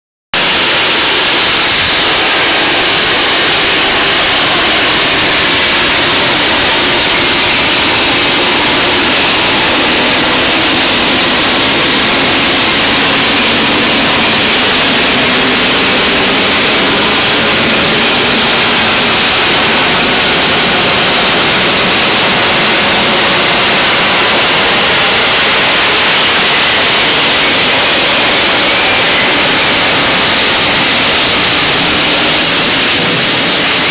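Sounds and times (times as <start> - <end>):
jet aircraft hovering: 0.4 - 33.9.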